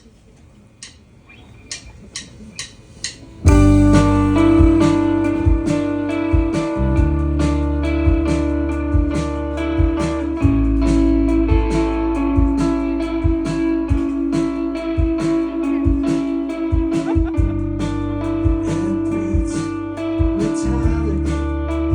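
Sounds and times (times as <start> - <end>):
drum beat: 2.6 - 21.4
live band playing: 3.4 - 21.9.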